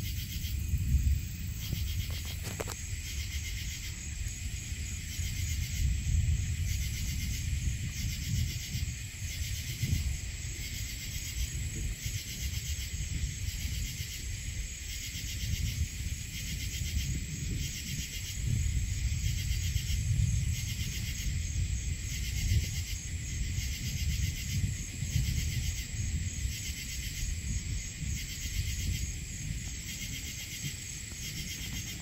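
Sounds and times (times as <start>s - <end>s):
crickets chirping in chorus: 0.0s - 32.0s.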